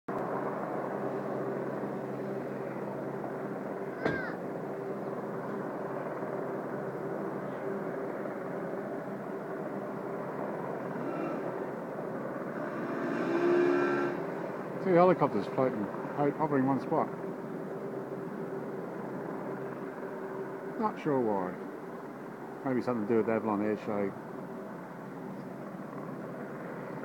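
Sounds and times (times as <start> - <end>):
helicopters hovering: 0.1 - 27.0.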